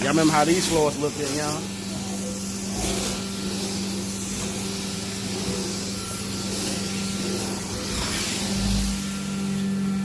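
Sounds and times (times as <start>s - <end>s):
hiss of suction and spray: 0.0s - 9.7s
carpet extraction machine humming: 0.0s - 10.0s.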